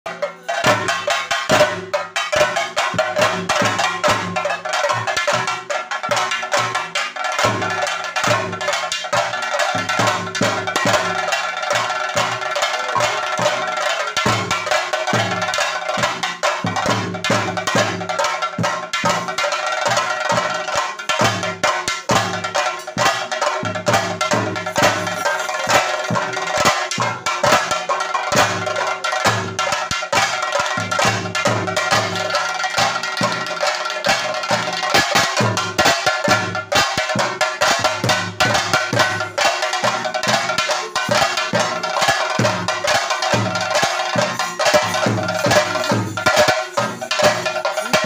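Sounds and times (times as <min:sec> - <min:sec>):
stick drums beaten fast: 0:00.1 - 0:48.0.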